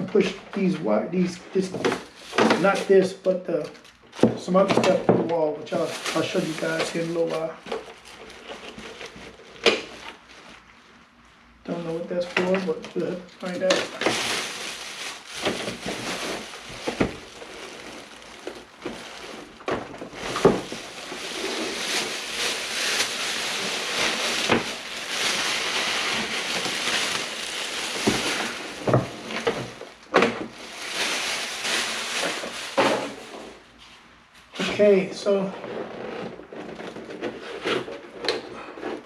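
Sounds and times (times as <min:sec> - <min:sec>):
plastic wrap and foam rustling: 0:00.0 - 0:39.0.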